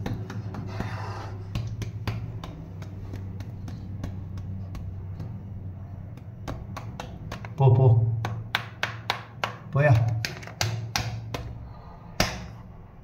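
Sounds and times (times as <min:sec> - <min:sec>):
sharp clicks and taps: 0:00.0 - 0:07.6, 0:08.2 - 0:11.5
steady low hum: 0:00.0 - 0:13.0.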